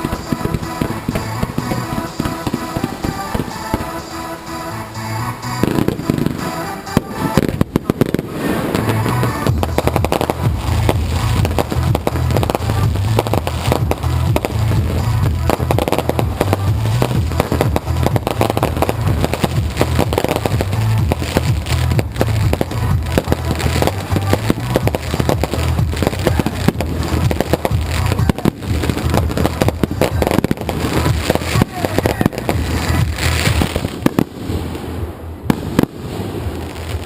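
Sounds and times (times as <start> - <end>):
fireworks bangs and crackling: 0.0 - 37.0
music playing: 0.0 - 37.0.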